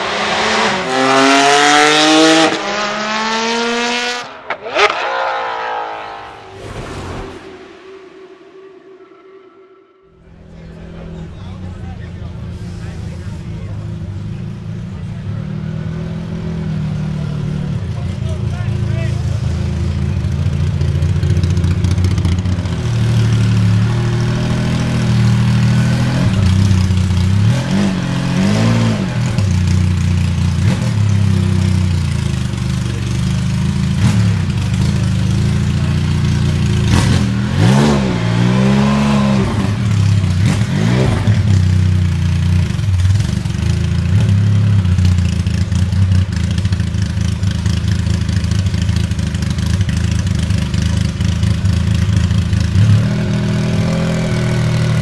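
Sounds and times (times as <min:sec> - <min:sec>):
car engine idling and revving: 0:00.0 - 0:06.6, 0:10.1 - 0:55.0.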